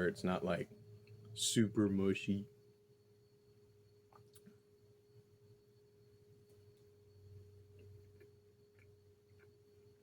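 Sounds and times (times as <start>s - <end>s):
faint electrical hum and whine: 0.0s - 10.0s.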